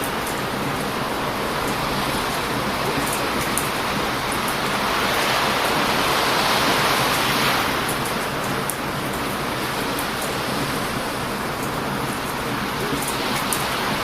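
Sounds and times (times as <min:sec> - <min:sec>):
heavy surf breaking: 0:00.0 - 0:14.0.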